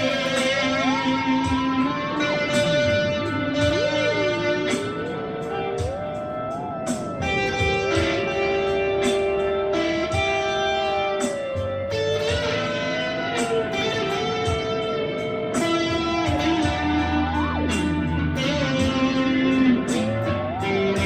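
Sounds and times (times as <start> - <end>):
smooth jazz music: 0.0 - 21.0.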